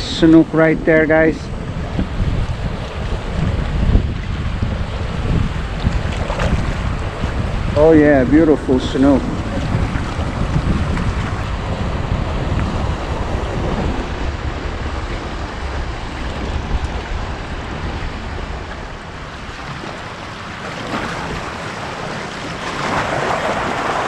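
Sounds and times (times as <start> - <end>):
waves washing against jetty: 0.0 - 24.0
wind buffeting microphone: 0.0 - 24.0.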